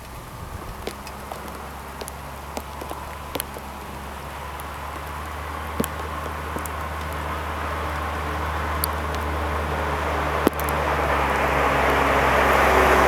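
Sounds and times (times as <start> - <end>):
sharp ticks and clicks: 0.0 - 10.9
diesel engine droning: 0.0 - 13.0.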